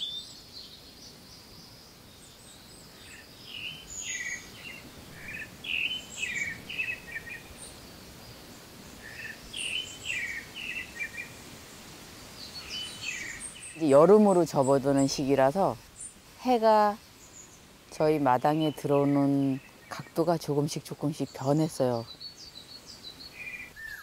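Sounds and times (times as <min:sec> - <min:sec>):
garden ambience: 0:00.0 - 0:24.0
songbird singing: 0:00.0 - 0:24.0.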